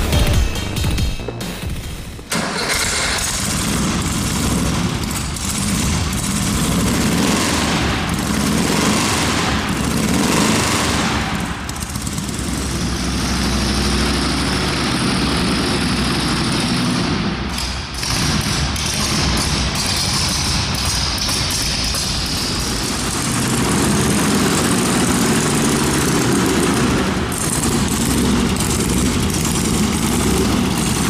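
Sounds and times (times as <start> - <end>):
engine revving with rattling exhaust: 2.4 - 31.0.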